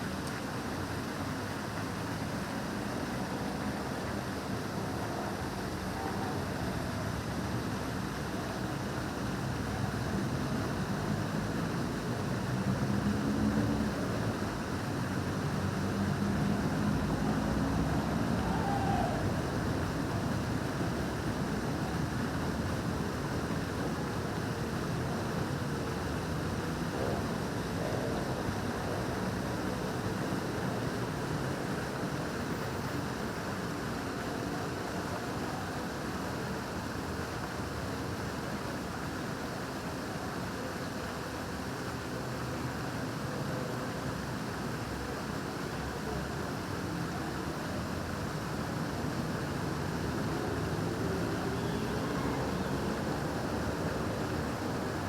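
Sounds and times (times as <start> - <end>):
faint hubbub of busy square: 0.0 - 55.0
fountain water splashing: 0.0 - 55.0.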